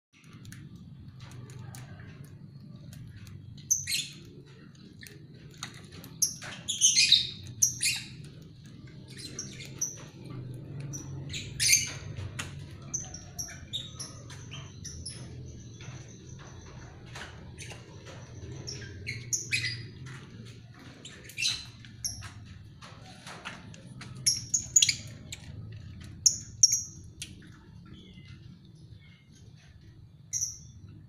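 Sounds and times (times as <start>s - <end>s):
birds chirping and squawking: 0.2s - 31.0s.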